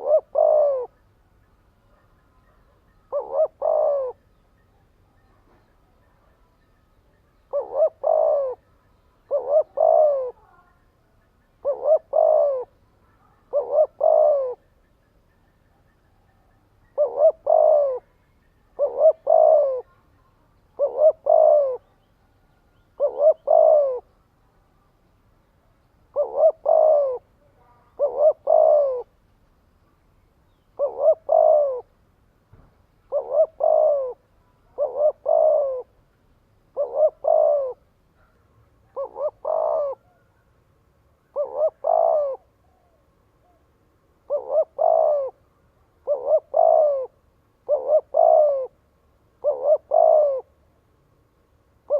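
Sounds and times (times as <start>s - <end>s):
dove cooing: 0.0s - 24.9s, 26.1s - 29.2s, 30.5s - 32.0s, 33.0s - 36.0s, 36.6s - 40.5s, 41.1s - 50.8s.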